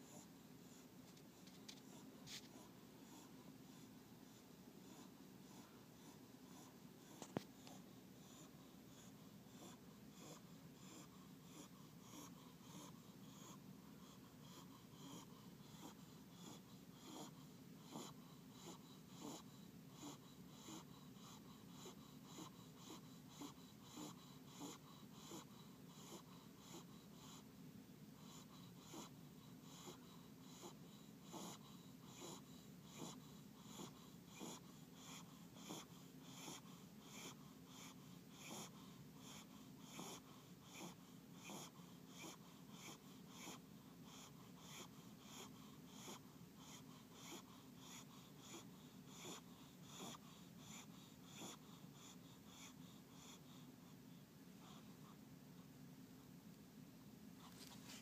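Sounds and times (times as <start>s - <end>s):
small dog snoring: 0.0s - 55.7s.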